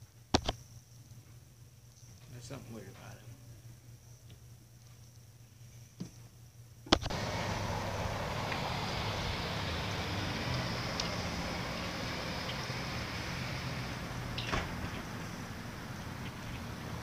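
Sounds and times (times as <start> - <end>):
low rumble with hiss: 0.0 - 17.0.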